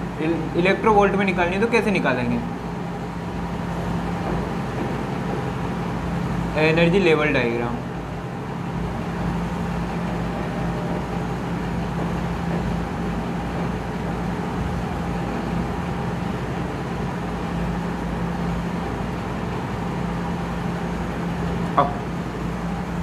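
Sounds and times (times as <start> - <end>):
low room drone: 0.0 - 23.0.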